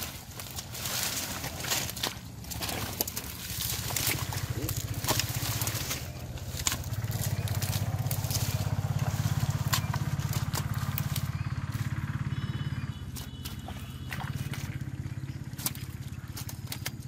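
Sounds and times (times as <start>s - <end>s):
plant stems crackling and snapping: 0.0s - 12.0s, 13.1s - 17.0s
low pulsing motor drone: 0.0s - 17.0s.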